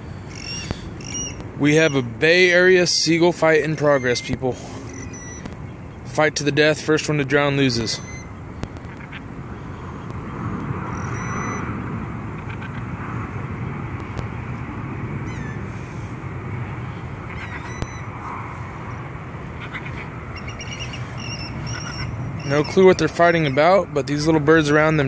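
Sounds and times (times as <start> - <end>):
birds calling: 0.0 - 13.4, 15.2 - 25.0.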